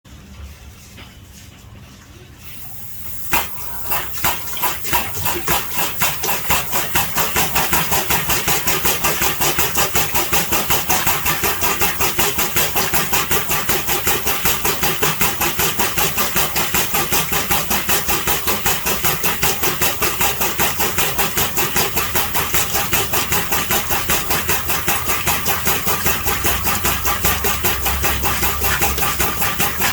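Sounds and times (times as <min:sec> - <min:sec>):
air-operated pump puffing: 0:02.4 - 0:29.9.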